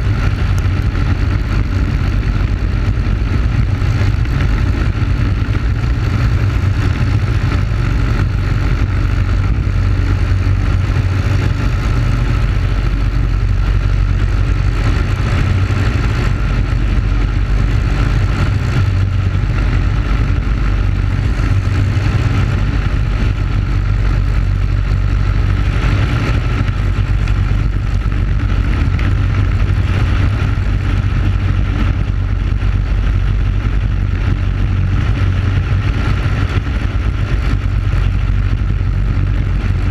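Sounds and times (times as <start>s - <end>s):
kart engine running at speed: 0.0s - 39.9s.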